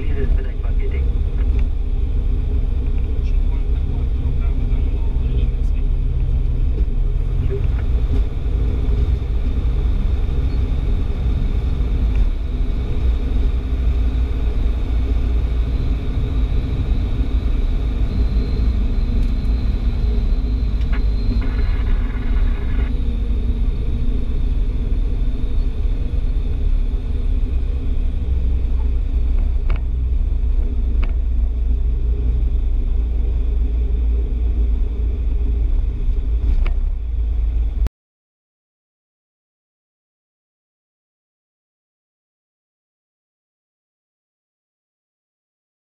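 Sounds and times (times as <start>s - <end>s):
propeller aircraft engine drone: 0.0s - 37.9s.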